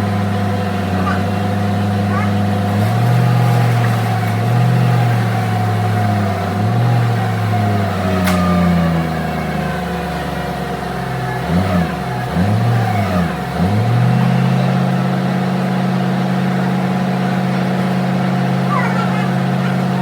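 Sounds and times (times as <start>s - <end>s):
forklift engine revving: 0.0s - 20.0s.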